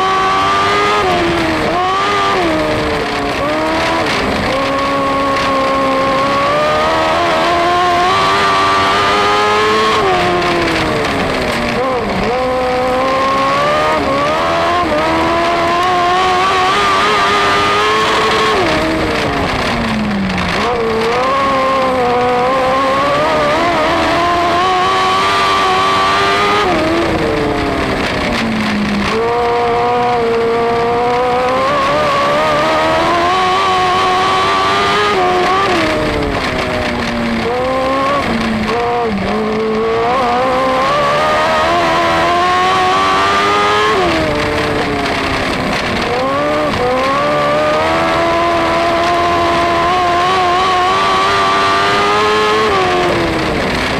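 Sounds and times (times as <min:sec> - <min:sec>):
racing motorcycle engine: 0:00.0 - 0:53.9.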